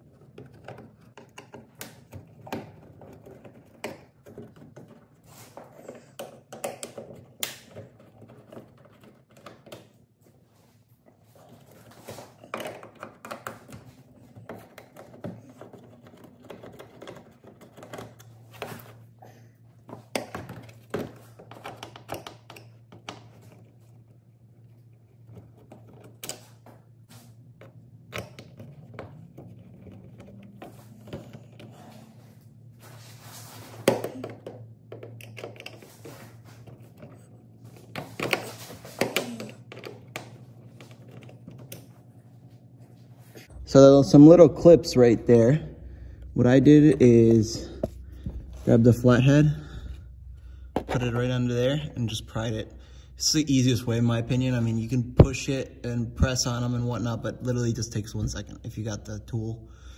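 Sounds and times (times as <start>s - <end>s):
low steady hum: 10.2s - 59.9s.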